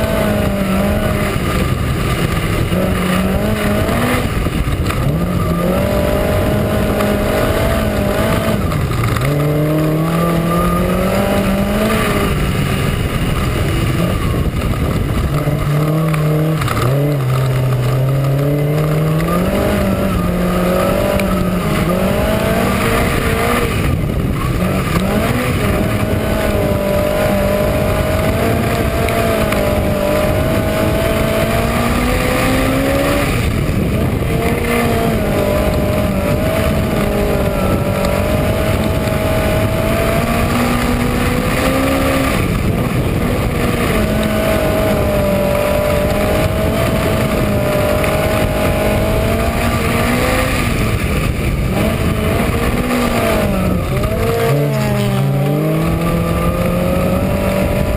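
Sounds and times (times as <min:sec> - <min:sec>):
race car engine running hard: 0:00.0 - 0:57.9.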